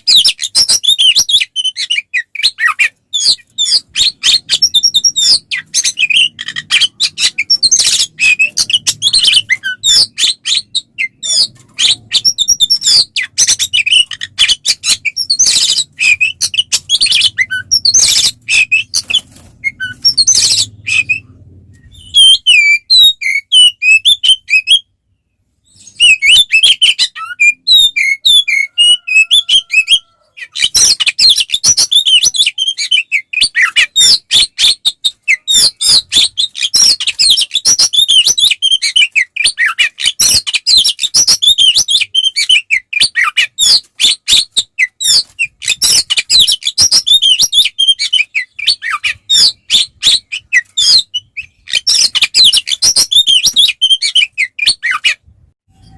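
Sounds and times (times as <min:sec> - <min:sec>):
bird singing whistles and chirps: 0:00.0 - 0:55.9.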